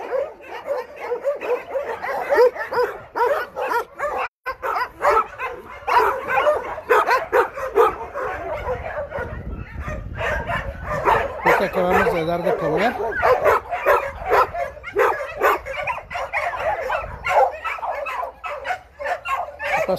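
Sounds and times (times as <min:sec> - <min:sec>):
dogs barking and yipping: 0:00.0 - 0:19.9.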